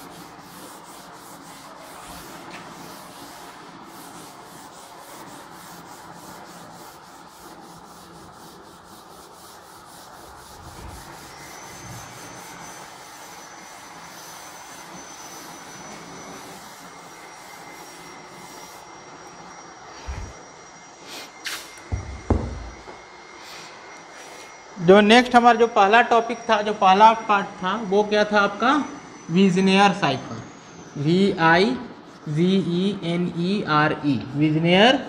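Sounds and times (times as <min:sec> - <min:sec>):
duster rubbing on chalkboard: 0:00.0 - 0:25.6, 0:31.1 - 0:35.0.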